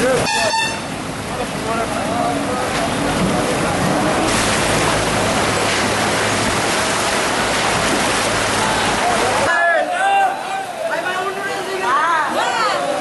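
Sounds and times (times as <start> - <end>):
floodwater roaring: 0.0 - 13.0.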